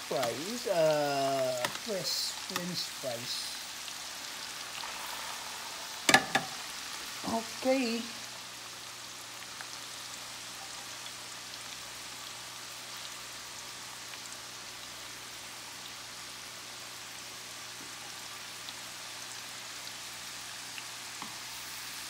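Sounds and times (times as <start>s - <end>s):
fries sizzling in hot oil: 0.0s - 22.0s.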